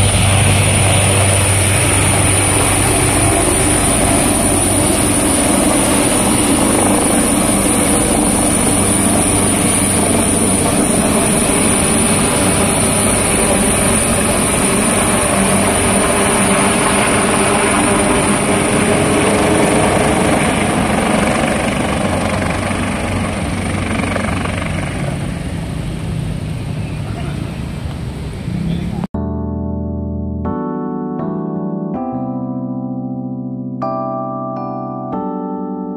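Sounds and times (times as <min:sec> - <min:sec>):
helicopter flying overhead: 0:00.0 - 0:29.1.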